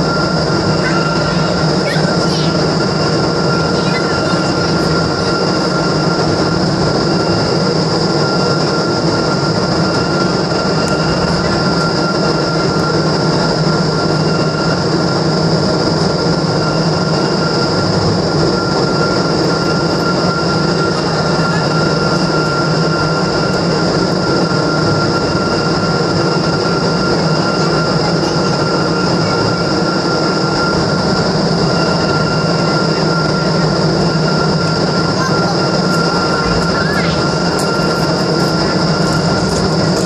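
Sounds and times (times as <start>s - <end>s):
high whine: 0.0s - 40.0s
wind tunnel air and fan rush: 0.0s - 40.0s.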